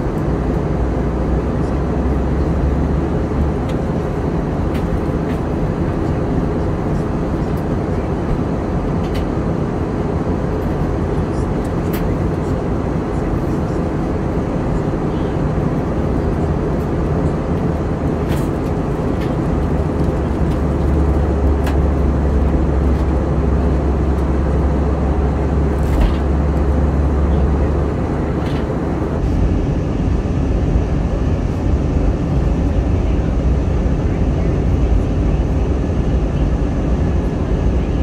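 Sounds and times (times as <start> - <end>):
airliner cabin engine rush: 0.0 - 38.0
deep rumble: 0.0 - 38.0.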